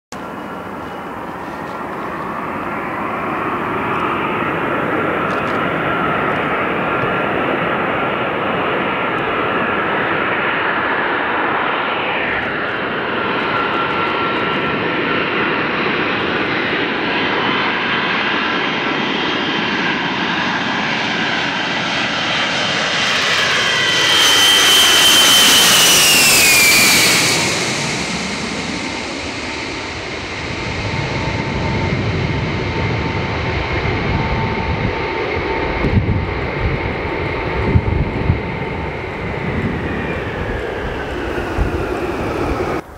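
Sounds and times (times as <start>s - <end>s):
jet engines roaring and whining: 0.1s - 42.9s.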